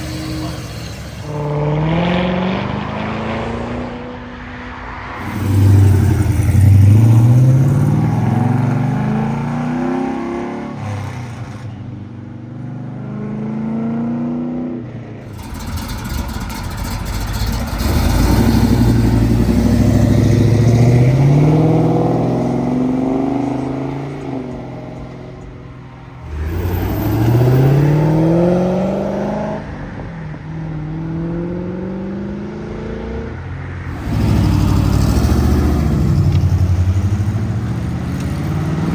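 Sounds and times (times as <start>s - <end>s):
cars accelerating: 0.0s - 11.6s, 15.3s - 25.5s, 26.1s - 29.9s, 30.8s - 38.9s.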